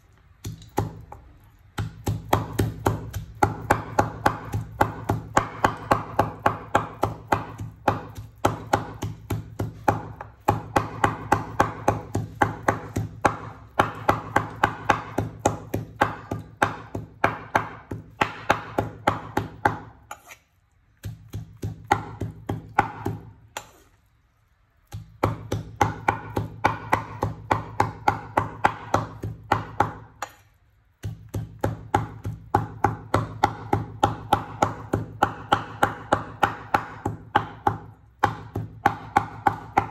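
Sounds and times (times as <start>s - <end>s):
cleaver chopping on wooden board: 1.8s - 20.4s, 21.0s - 23.8s, 25.0s - 30.4s, 31.0s - 39.9s.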